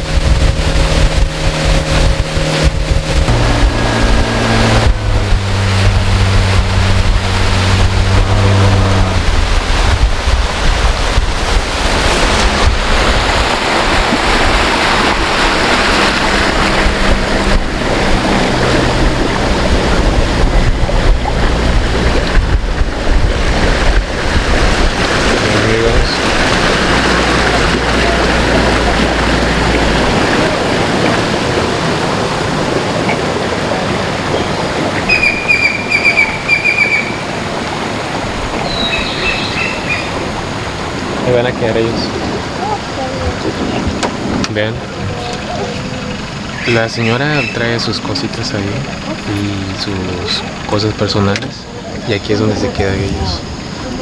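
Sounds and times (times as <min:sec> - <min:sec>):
wind on microphone: 0:00.0 - 0:50.7
outboard motor drone: 0:00.0 - 0:54.0
water rushing along hull: 0:00.0 - 0:54.0.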